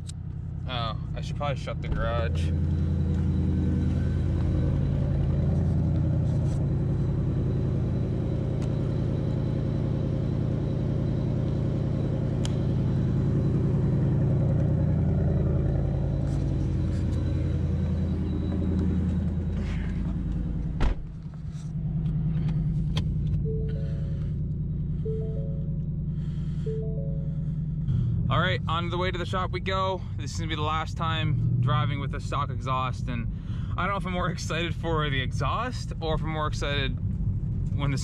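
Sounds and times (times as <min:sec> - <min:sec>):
car engine idling: 0:00.0 - 0:38.0.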